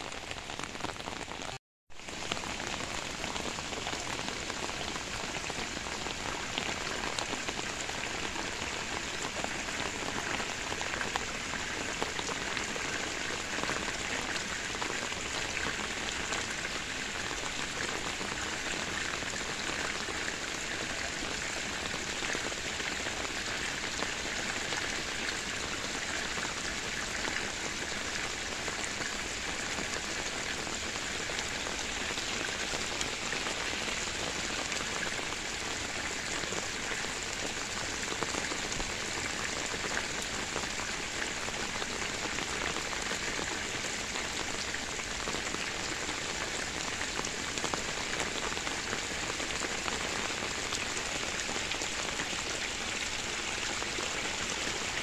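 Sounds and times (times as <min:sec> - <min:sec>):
rain falling on foliage: 0:00.0 - 0:55.0.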